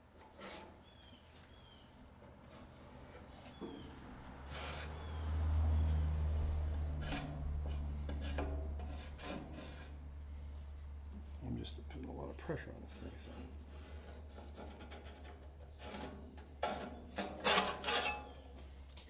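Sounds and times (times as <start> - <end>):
metal scraping on metal: 0.0 - 1.8, 2.4 - 10.0, 12.5 - 18.5.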